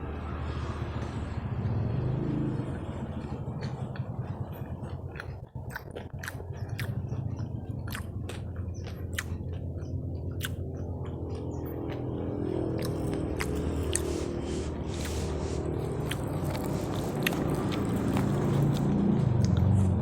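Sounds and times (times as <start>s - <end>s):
steady low hum: 0.0s - 20.0s
crunchy chewing of snacks: 1.9s - 20.0s.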